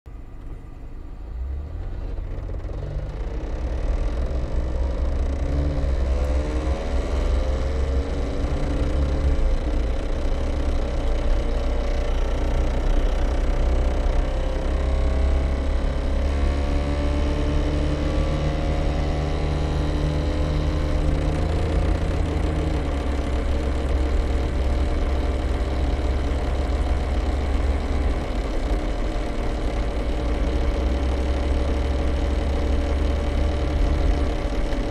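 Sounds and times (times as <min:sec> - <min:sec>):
car engine and road rumble: 0:00.1 - 0:34.9.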